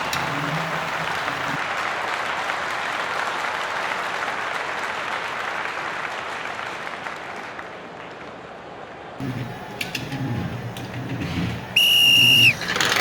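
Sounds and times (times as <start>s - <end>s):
crowd applause: 0.0s - 9.3s, 11.8s - 13.0s.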